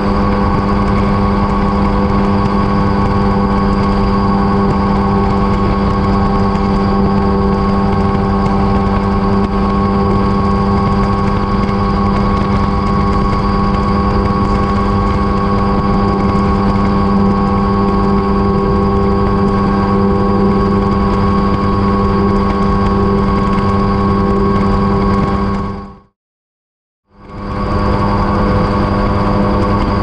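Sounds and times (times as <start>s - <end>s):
helicopter engine and rotor drone: 0.0s - 26.1s, 27.0s - 30.0s.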